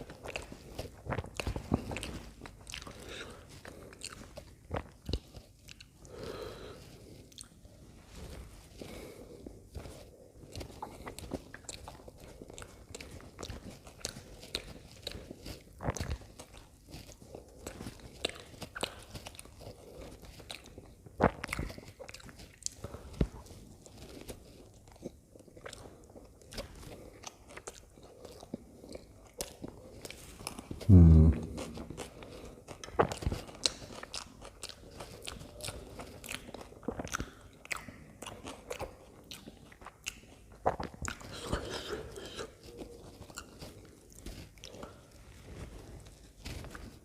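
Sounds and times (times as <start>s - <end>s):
person chewing food: 0.0s - 47.0s.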